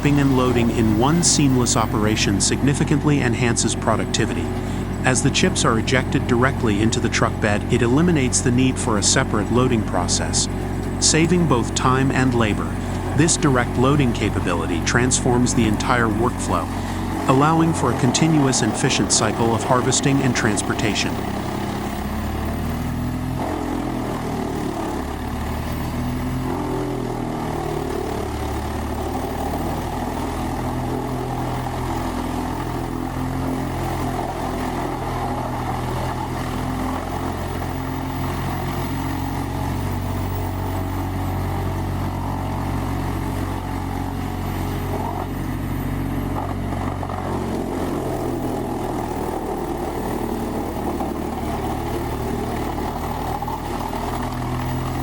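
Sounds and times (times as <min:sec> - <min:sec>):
tree chipper engine droning: 0:00.0 - 0:55.0.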